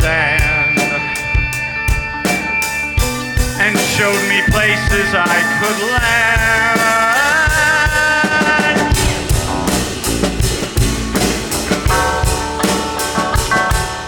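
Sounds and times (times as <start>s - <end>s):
band playing drums and guitar: 0.0s - 14.0s.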